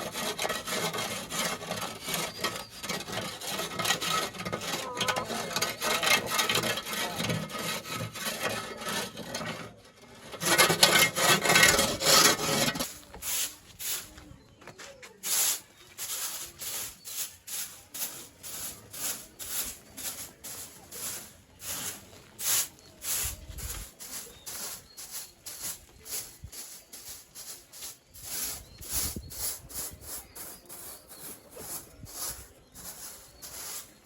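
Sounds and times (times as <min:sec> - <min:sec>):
broom scraping and brushing floor: 0:00.0 - 0:34.0.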